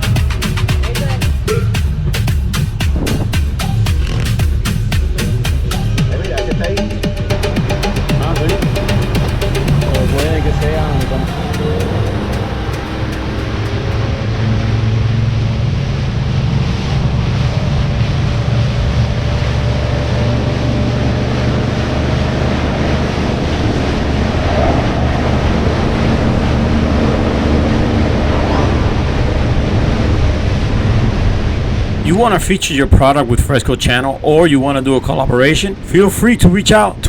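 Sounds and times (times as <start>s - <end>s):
wind buffeting microphone: 0.0s - 34.2s
motorboat engine humming: 0.0s - 37.0s.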